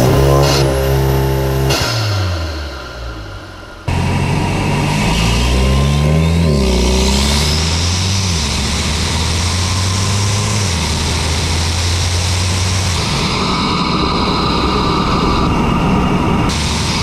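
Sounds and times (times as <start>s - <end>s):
car engine at low revs: 0.0s - 17.0s
wind and road noise: 0.0s - 17.0s.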